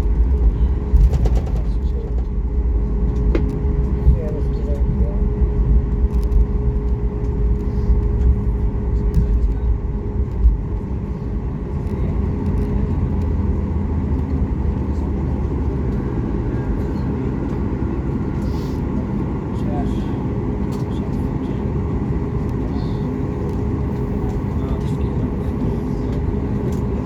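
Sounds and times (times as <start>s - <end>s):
steady hum: 0.0s - 27.0s
vehicle rumble from inside: 0.0s - 27.0s.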